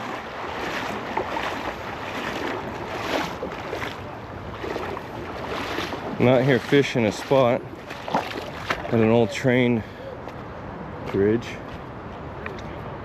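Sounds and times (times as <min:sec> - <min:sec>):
river water rushing: 0:00.0 - 0:11.0
wind buffeting microphone: 0:00.0 - 0:13.0.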